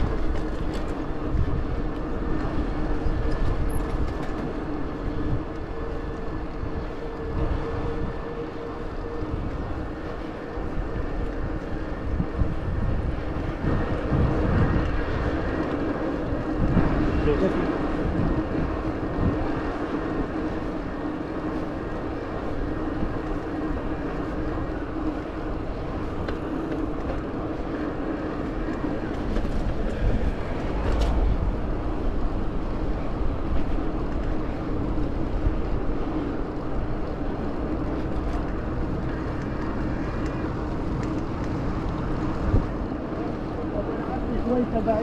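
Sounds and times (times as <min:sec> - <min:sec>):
wind rushing: 0:00.0 - 0:44.8
constant low hum: 0:00.0 - 0:45.0
tyre noise on asphalt: 0:00.0 - 0:45.0.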